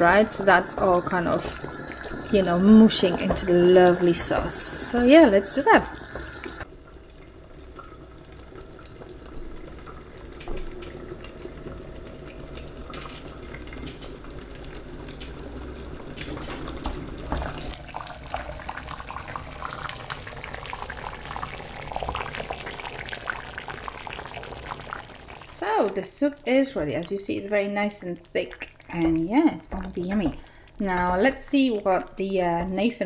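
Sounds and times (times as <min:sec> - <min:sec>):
soup bubbling: 0:00.0 - 0:33.0.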